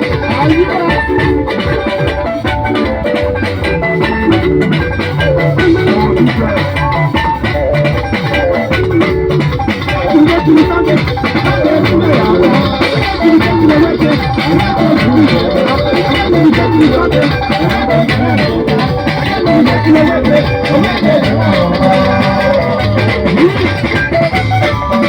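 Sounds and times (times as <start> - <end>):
upbeat band music: 0.0 - 25.0.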